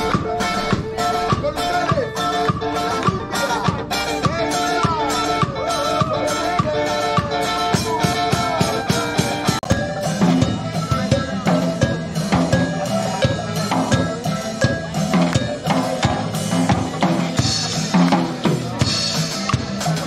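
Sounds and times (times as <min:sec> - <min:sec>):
upbeat music with drum beat: 0:00.0 - 0:20.0.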